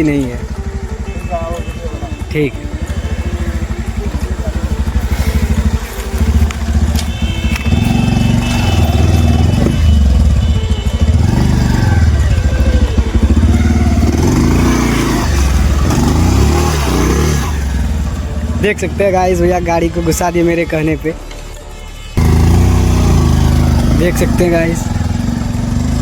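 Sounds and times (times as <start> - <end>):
motorcycle engine revving: 0.0 - 20.5, 22.2 - 26.0.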